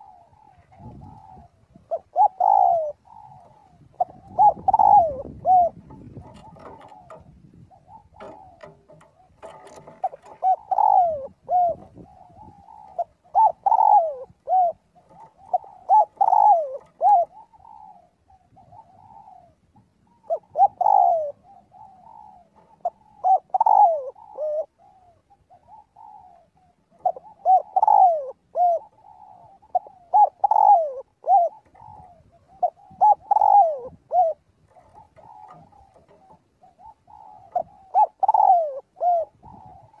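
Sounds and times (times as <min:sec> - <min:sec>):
dove cooing: 0:00.0 - 0:40.0.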